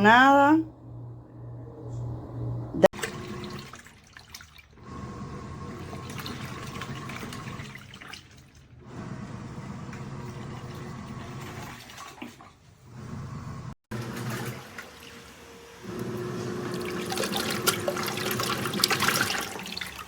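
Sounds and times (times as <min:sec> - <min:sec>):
water sloshing in washing machine: 0:02.9 - 0:20.0.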